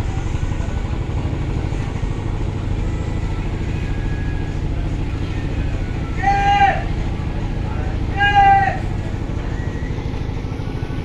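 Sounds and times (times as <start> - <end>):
ship engine droning: 0.0 - 11.0.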